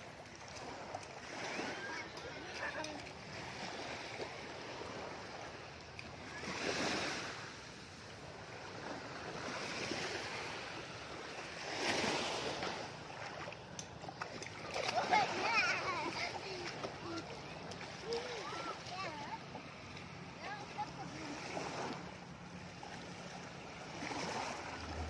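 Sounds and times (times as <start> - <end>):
sea waves washing on shore: 0.0 - 25.0.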